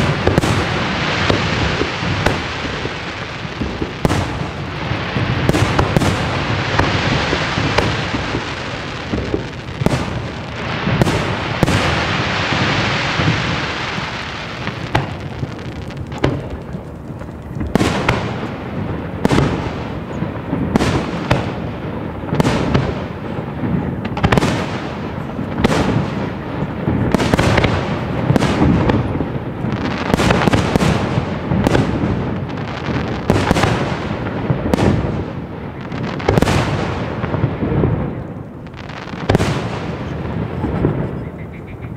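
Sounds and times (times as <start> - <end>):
firework shells booming: 0.0 - 41.6
firework hiss and crackle: 0.0 - 41.9.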